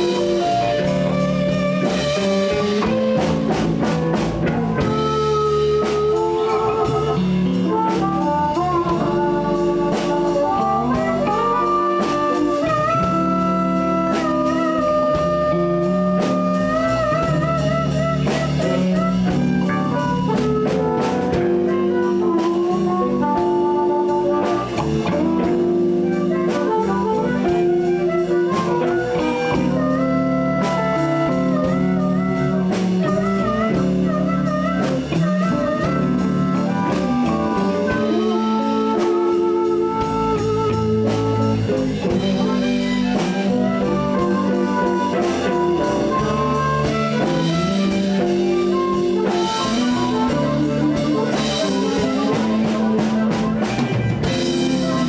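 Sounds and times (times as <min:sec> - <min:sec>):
bending lead guitar notes: 0:00.0 - 0:55.0
live blues band playing: 0:00.0 - 0:55.0.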